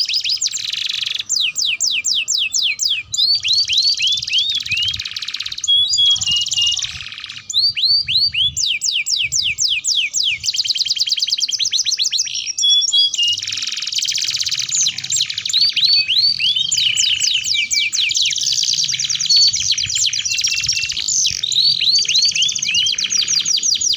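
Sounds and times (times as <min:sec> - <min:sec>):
canary singing trills: 0:00.0 - 0:23.9.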